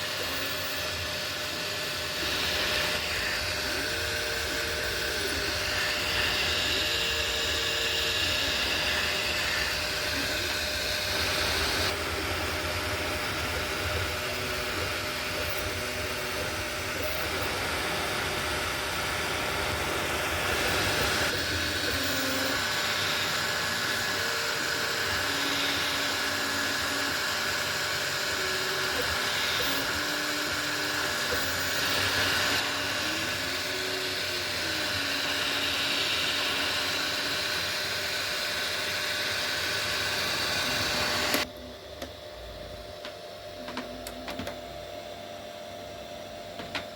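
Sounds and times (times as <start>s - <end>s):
cooling fans hissing: 0.0s - 46.9s
stepper motors whining: 0.0s - 46.9s.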